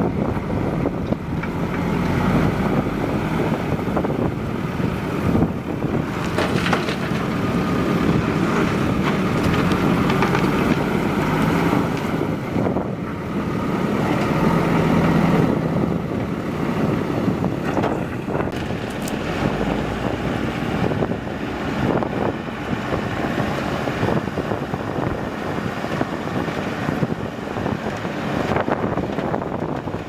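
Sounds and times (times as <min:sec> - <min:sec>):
diesel engine running: 0:00.0 - 0:30.0
wind buffeting microphone: 0:00.0 - 0:30.0.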